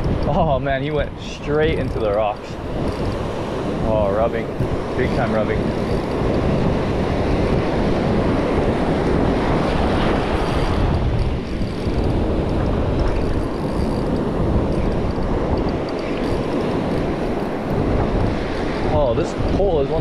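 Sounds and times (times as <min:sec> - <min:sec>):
ocean surf over reef: 0:00.0 - 0:20.0
wind buffeting microphone: 0:00.0 - 0:20.0.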